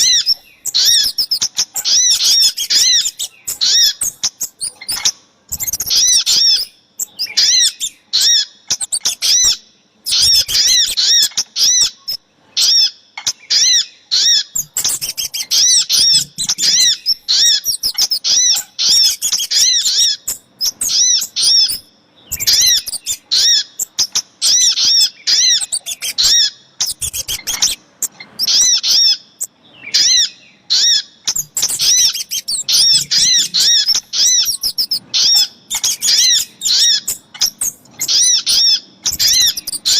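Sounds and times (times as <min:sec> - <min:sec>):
rapid high bird chirping: 0:00.0 - 0:12.9, 0:13.5 - 0:39.9.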